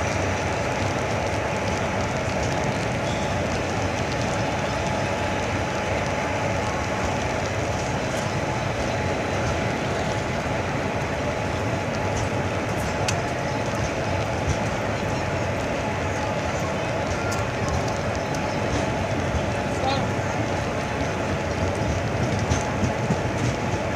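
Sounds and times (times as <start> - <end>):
train rumbling and rattling: 0.0 - 23.9.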